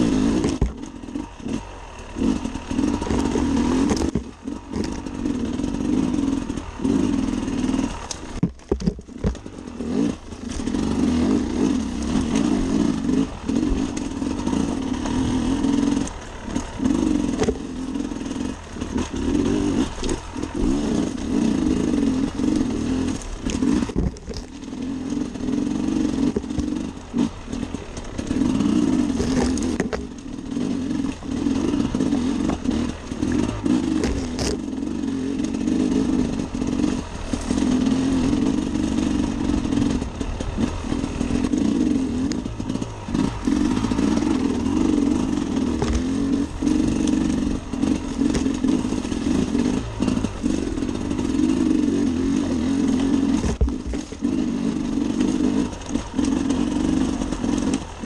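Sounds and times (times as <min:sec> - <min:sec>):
two-stroke motorcycle engine: 0:00.0 - 0:58.0.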